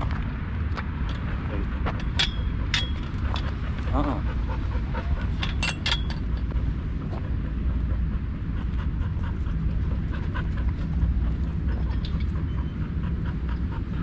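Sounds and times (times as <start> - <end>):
steady low rumble: 0.0 - 14.0
dog panting: 1.2 - 5.5, 6.1 - 14.0.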